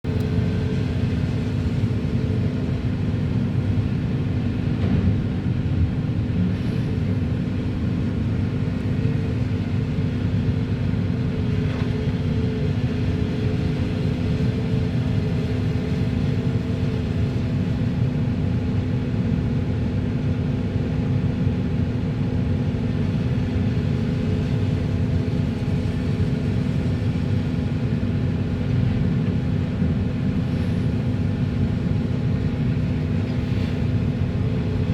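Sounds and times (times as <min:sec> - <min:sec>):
excavator diesel engine running: 0:00.0 - 0:19.1, 0:23.8 - 0:34.9.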